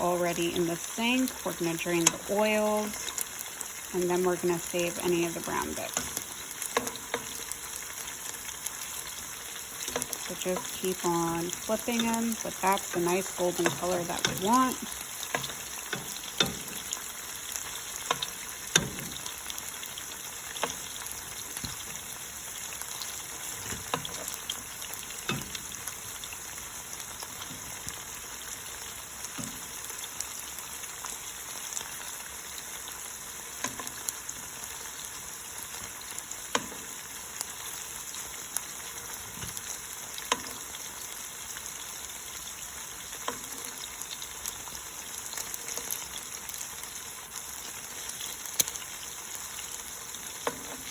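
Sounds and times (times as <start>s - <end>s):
chicken frying in hot oil: 0.0s - 50.9s.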